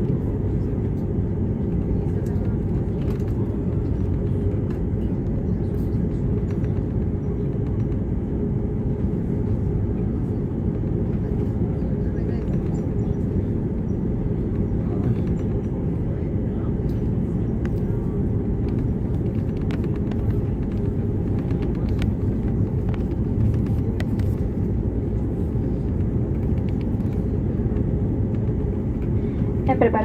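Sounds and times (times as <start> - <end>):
airplane cabin engine rumble: 0.0 - 30.0
faint cabin clicks and rattles: 0.0 - 30.0.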